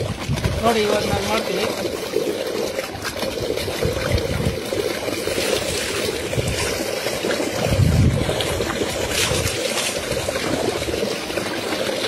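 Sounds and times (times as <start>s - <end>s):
liquid pouring and splashing: 0.0s - 12.0s.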